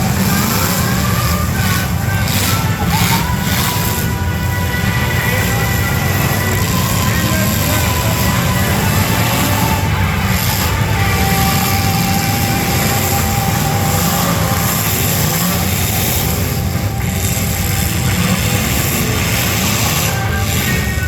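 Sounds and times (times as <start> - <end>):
car engines running hard: 0.0 - 21.0.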